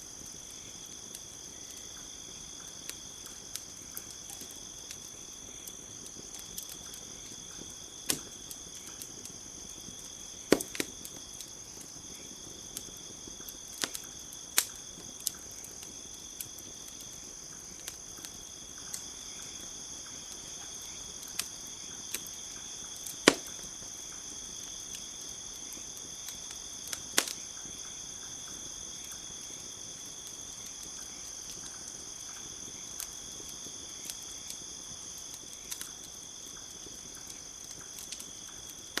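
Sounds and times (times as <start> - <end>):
campfire crackling and popping: 0.0 - 39.0
crickets chirring: 0.0 - 39.0.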